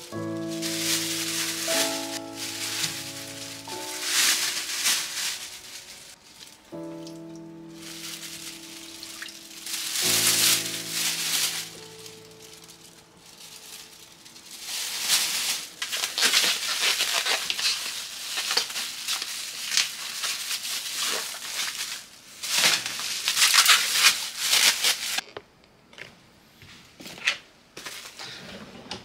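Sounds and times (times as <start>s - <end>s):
plastic bags crinkling: 0.0s - 25.3s.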